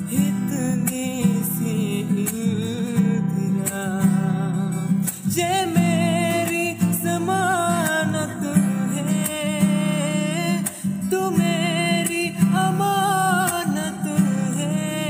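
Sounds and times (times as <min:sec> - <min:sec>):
acoustic guitar strumming chords: 0:00.0 - 0:15.0
young man singing with vibrato: 0:00.0 - 0:15.0.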